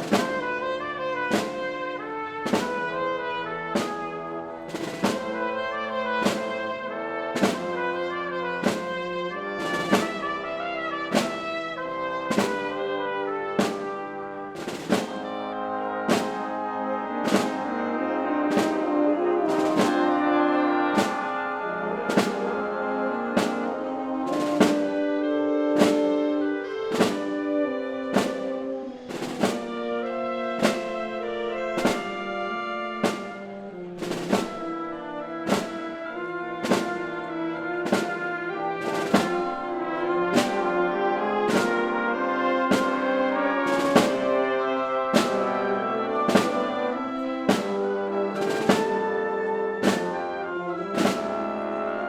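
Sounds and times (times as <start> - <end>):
percussion strokes: 0.0 - 0.6, 1.2 - 3.1, 3.7 - 5.4, 6.2 - 6.7, 7.4 - 17.8, 20.9 - 25.1, 25.8 - 37.2, 37.8 - 40.7, 41.5 - 50.3
brass chords: 0.0 - 52.0
orchestra playing slow march: 0.0 - 52.0.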